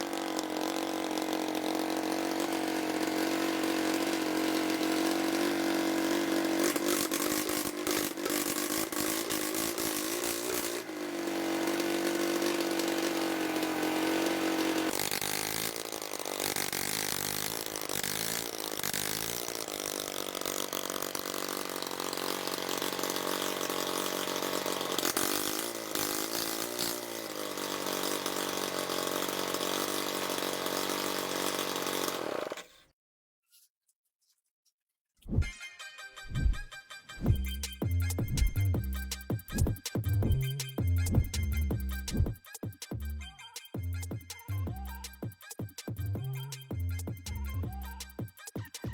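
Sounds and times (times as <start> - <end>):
motorcycle engine running: 0.0 - 32.7, 37.3 - 48.9.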